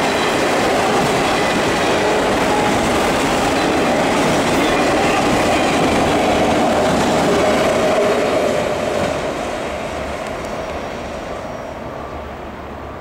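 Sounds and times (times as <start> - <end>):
train cars rolling on rails: 0.0 - 13.0.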